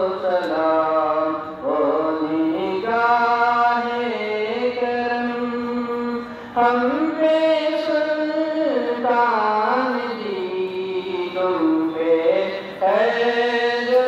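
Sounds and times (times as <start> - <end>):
person singing slow chant: 0.0 - 14.0.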